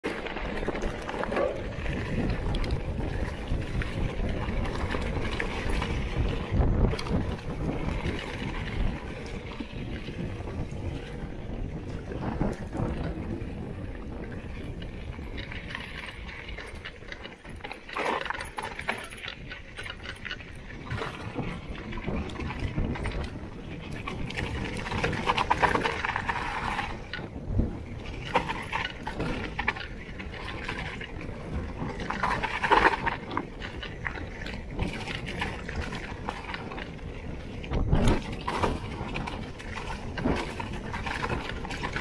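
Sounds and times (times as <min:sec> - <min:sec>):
bike rattling over stones: 0:00.0 - 0:42.0
wind on microphone: 0:00.1 - 0:42.0.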